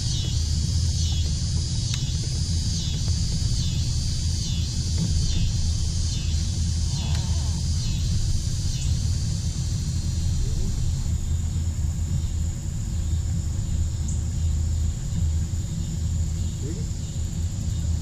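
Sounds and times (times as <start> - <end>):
insects buzzing high-pitched: 0.0 - 18.0
low rumble: 0.0 - 18.0.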